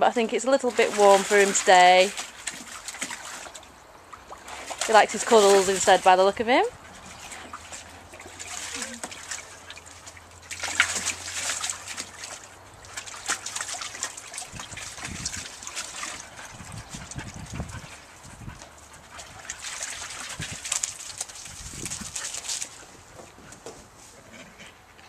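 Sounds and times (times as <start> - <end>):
water splashing in a paddling pool: 0.0 - 23.2.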